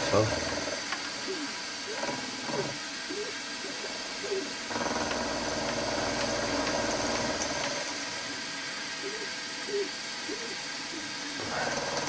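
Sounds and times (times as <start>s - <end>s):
end mill cutting drone: 0.0s - 12.0s
milling machine hum: 0.0s - 12.0s.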